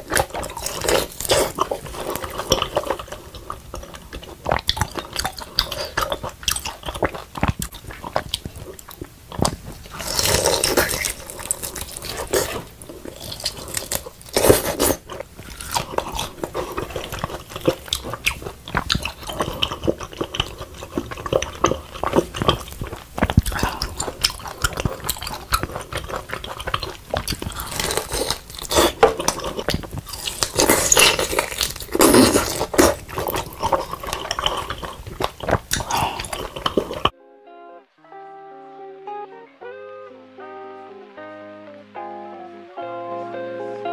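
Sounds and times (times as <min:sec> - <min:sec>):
crunchy chewing: 0:00.0 - 0:37.1
wet mouth sounds: 0:00.0 - 0:37.1.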